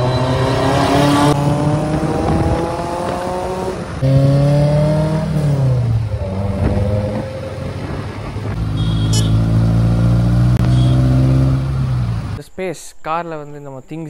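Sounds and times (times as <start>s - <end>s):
car engine accelerating: 0.0s - 12.4s.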